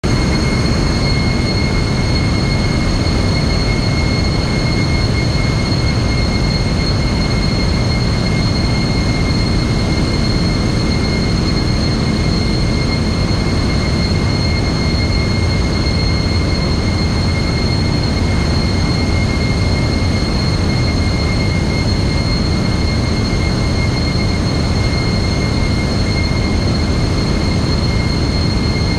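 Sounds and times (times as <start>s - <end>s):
constant high whine: 0.0s - 28.9s
engine room machinery drone: 0.0s - 28.9s.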